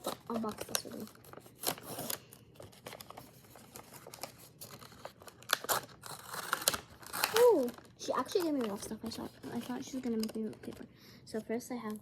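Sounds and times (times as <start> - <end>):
packaging tearing: 0.0 - 10.7
packaging rustling and crinkling: 0.0 - 10.9.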